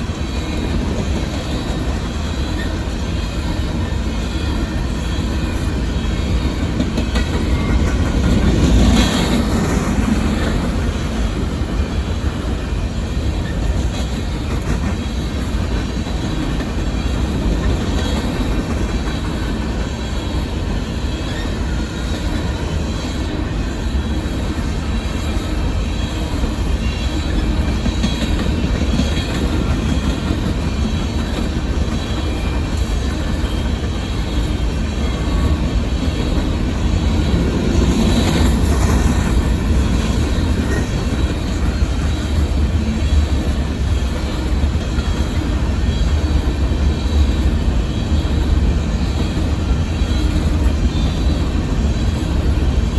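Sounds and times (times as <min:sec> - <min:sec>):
train wheels rumbling on rail: 0:00.0 - 0:52.9
wheels squealing: 0:00.1 - 0:52.7.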